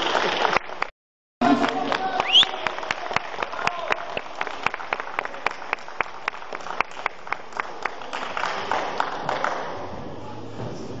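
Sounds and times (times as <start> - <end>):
audience applause: 0.0 - 9.8
rhythmic clapping: 0.0 - 9.9.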